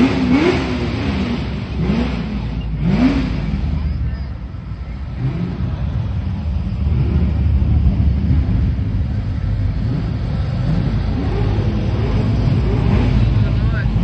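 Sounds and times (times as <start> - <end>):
car engines rumbling past: 0.0 - 14.0.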